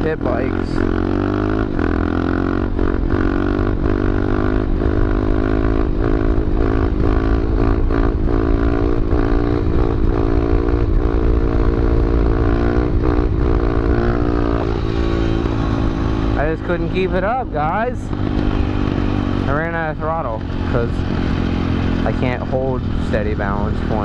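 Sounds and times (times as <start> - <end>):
pit bike engine at steady revs: 0.0 - 24.0.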